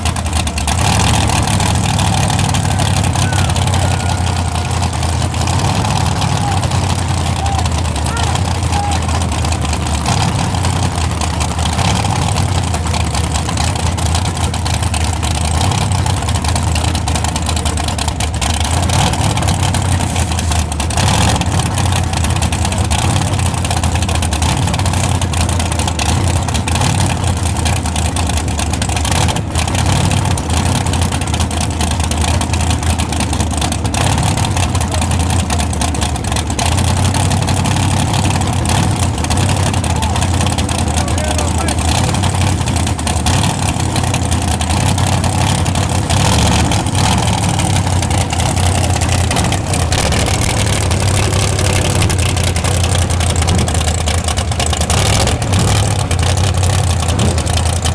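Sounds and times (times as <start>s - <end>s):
truck engines running: 0.0s - 57.9s.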